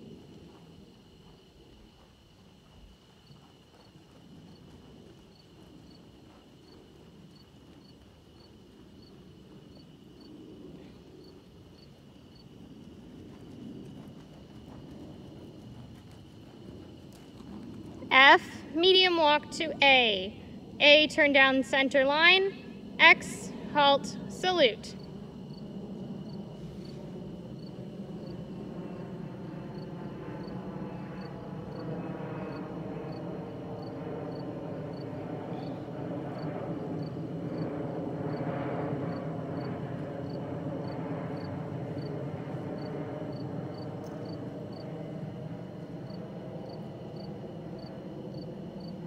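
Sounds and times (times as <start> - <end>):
faint cricket chirping: 0.0 - 49.0
low rumbling background noise: 0.0 - 49.0.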